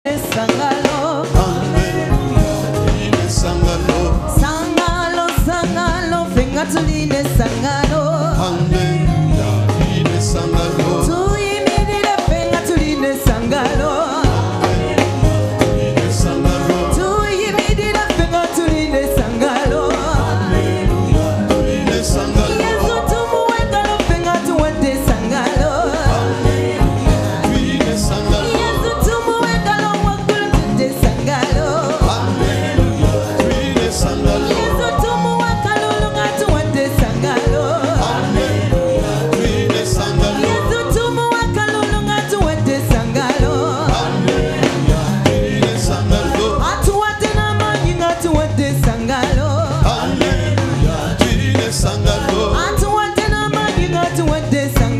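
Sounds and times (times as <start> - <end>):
band with steady drum beat: 0.1 - 54.9
women's choir singing: 0.7 - 5.6, 9.4 - 48.4, 49.2 - 54.1.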